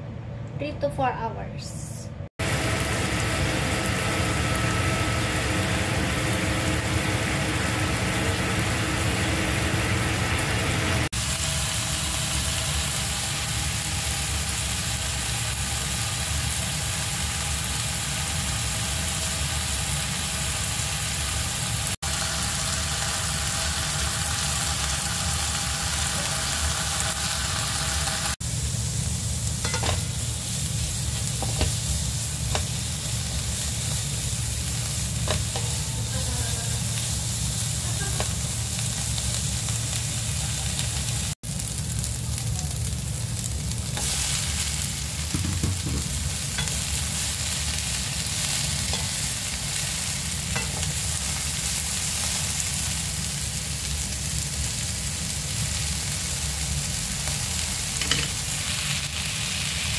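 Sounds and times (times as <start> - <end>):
chicken sizzling in oil: 2.4 - 59.9
onions sizzling: 2.4 - 59.9.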